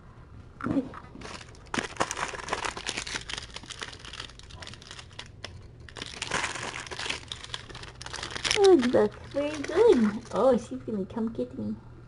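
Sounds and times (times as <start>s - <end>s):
crinkling and rustling: 0.9s - 10.7s.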